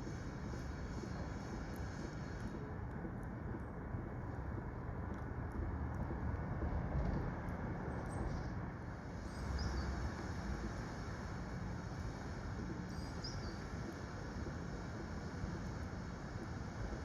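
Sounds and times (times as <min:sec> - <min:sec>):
low outdoor background rumble: 0:00.0 - 0:17.0.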